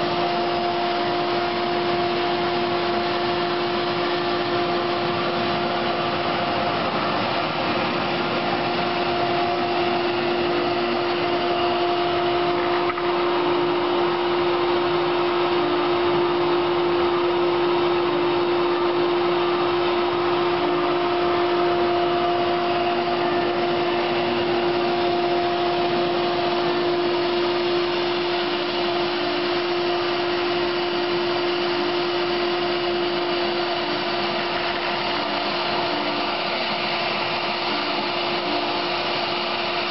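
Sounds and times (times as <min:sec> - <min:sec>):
router spindle whining: 0:00.0 - 0:39.9
vacuum rushing air: 0:00.0 - 0:39.9.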